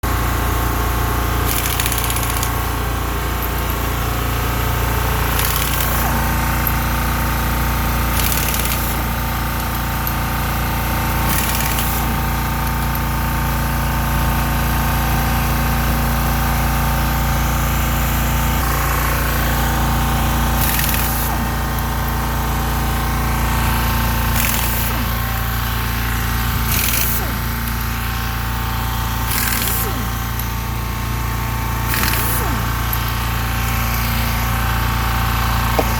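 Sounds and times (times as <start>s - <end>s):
electric motor whine and hum: 0.1s - 35.9s
short rattling bursts: 1.1s - 13.4s, 17.5s - 35.9s.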